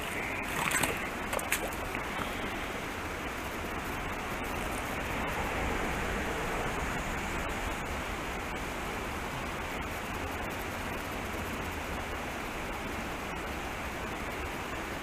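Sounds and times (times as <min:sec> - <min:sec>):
creek flowing over rocks: 0:00.0 - 0:15.0.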